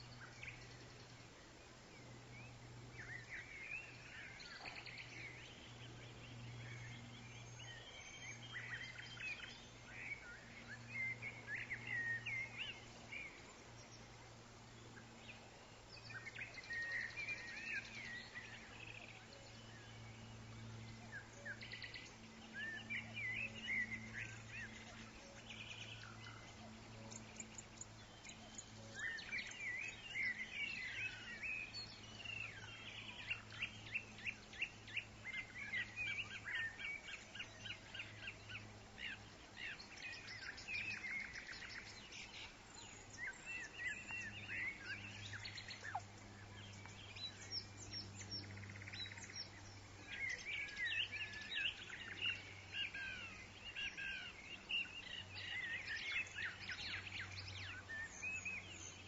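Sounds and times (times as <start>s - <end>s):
low steady hum: 0.0s - 59.0s
songbirds chirping and trilling: 0.0s - 59.0s
wind in trees: 0.0s - 59.0s.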